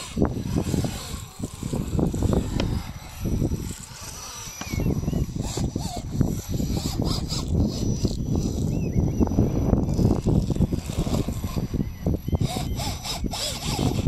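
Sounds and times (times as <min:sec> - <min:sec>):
tyres scraping and grinding on rock: 0:00.0 - 0:08.9, 0:09.7 - 0:14.0.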